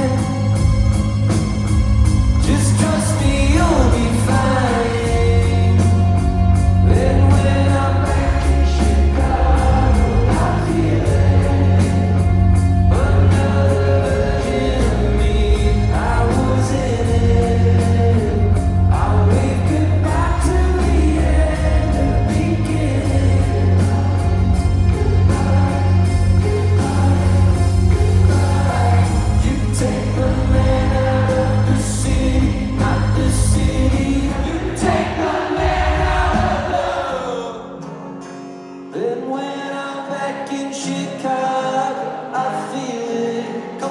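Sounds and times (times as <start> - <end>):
heavy steady bass: 0.0 - 36.6
band music: 0.0 - 38.2
person singing: 0.0 - 38.2, 38.8 - 43.9.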